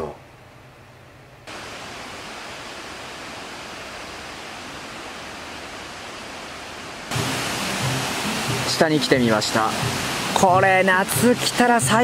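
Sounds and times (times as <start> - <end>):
river rushing over rocks: 1.5 - 12.0.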